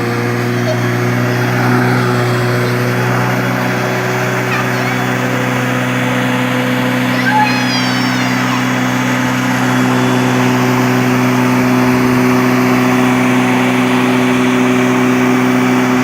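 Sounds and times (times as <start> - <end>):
lawnmower motor running: 0.0 - 16.0.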